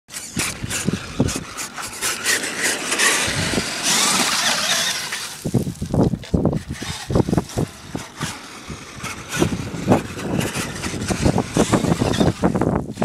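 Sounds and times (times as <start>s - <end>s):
rc truck tyres spinning in woodchips: 0.1s - 13.0s.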